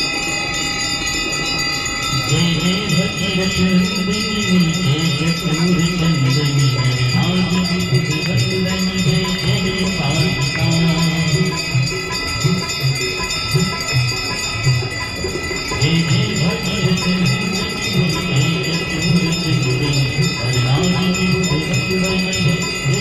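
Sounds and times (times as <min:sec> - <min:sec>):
brass bells ringing: 0:00.0 - 0:23.0.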